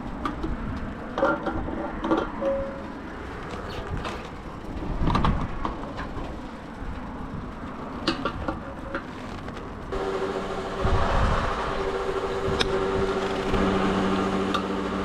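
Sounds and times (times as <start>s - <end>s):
motorcycle engine rumbling: 2.7s - 15.0s.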